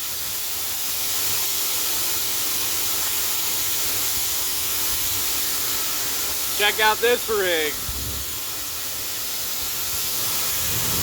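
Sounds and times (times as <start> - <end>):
corn pouring from auger: 0.0 - 11.0.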